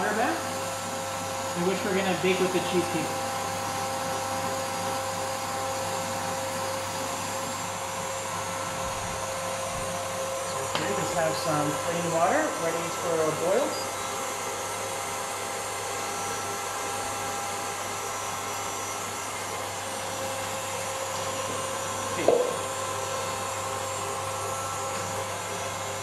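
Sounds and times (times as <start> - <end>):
stand mixer motor hum: 0.0 - 26.0.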